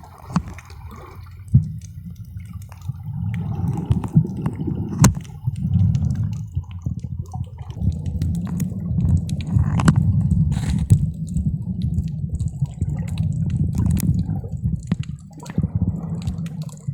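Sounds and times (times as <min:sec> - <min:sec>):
sharp underwater clicks: 0:00.0 - 0:16.9
underwater moving water rumble: 0:00.0 - 0:16.9.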